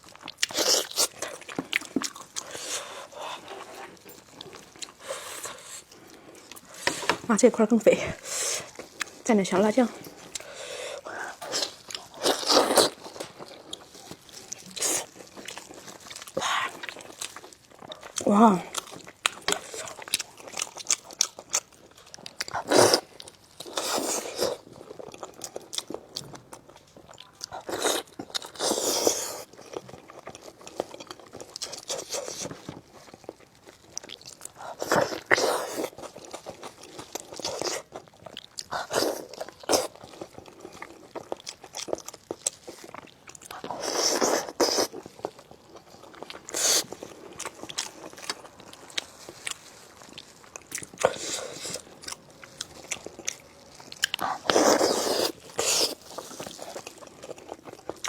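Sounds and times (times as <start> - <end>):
biting and chewing meat: 0.0 - 7.2, 9.9 - 58.0.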